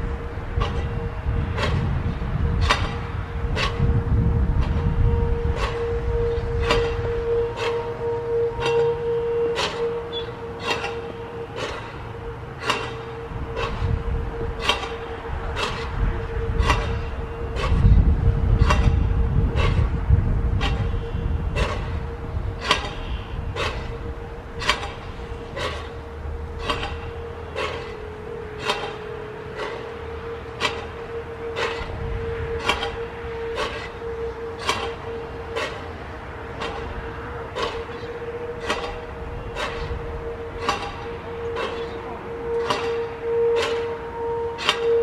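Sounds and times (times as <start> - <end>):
siren dampers clicking: 0.0 - 45.0
steady hum: 0.0 - 45.0.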